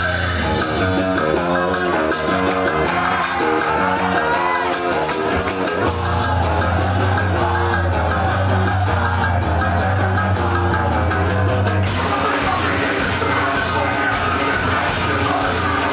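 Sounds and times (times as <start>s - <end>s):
rock band playing live: 0.0s - 15.9s.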